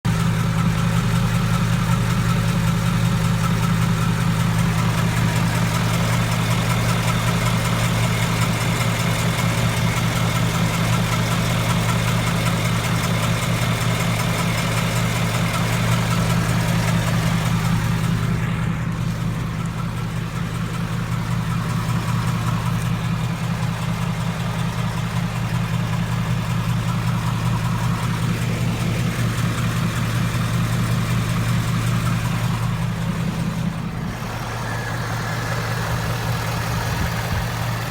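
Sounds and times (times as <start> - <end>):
car engine idling: 0.0 - 37.9
light engine ticking: 0.1 - 37.9.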